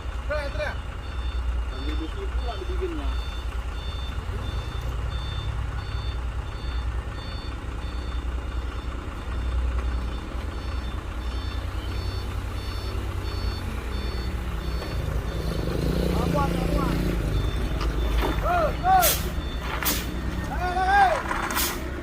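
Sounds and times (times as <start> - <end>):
diesel engine rumble: 0.0 - 22.0
truck reversing alarm beeping: 0.0 - 22.0.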